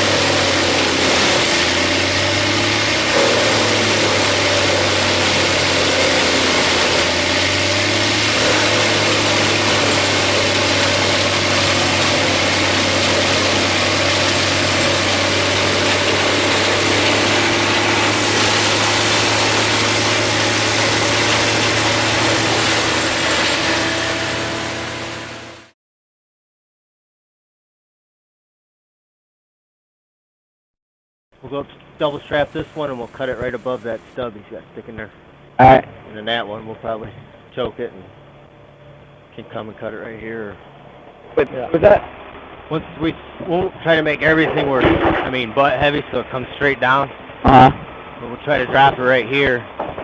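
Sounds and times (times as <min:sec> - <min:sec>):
wood chipper running: 0:00.0 - 0:25.8, 0:31.4 - 0:50.0.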